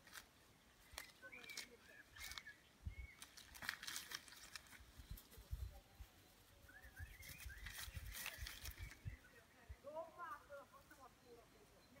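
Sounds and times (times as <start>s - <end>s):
leaves and stems rustling: 0.0s - 12.0s
bird chirps: 0.3s - 12.0s.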